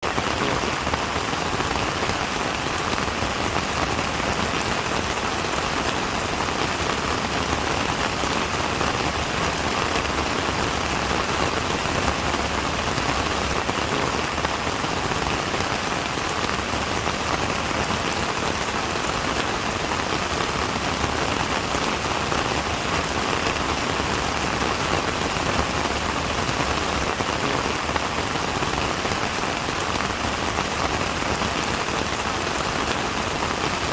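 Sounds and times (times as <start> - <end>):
rain pattering on a surface: 0.0 - 33.9.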